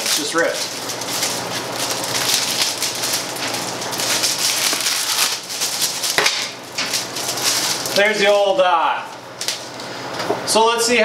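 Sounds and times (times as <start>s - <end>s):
plastic bag crinkling and tearing: 0.0s - 9.7s.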